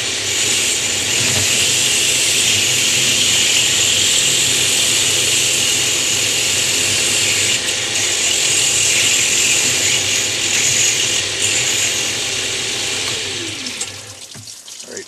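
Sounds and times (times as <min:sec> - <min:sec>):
router cutting stone: 0:00.0 - 0:14.2.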